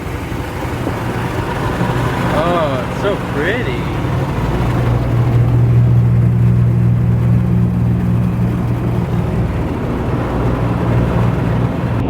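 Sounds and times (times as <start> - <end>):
car wash droning hum: 0.0 - 12.0.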